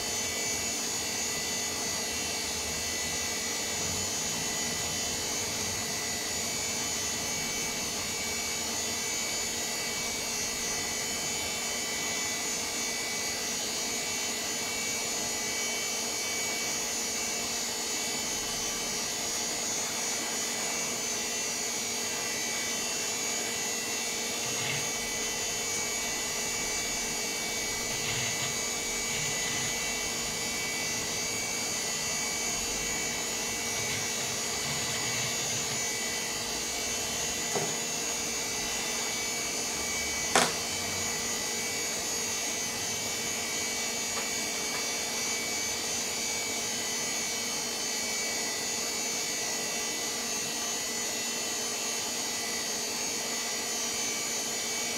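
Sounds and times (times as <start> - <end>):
computer fans and disks whirring: 0.0 - 54.9.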